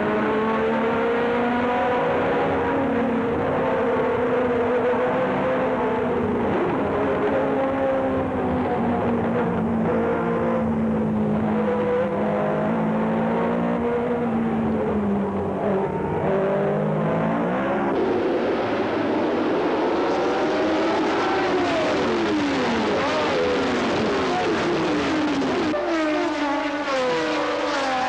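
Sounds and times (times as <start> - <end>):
race car engine onboard: 0.0 - 28.0
race cars passing by: 0.0 - 28.0.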